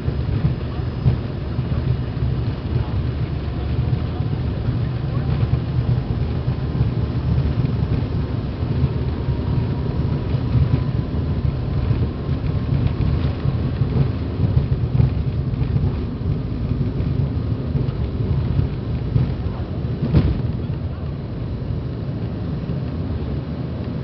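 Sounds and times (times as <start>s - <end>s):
faint engine whine: 0.0s - 24.0s
jet engines deep rumble: 0.0s - 24.0s.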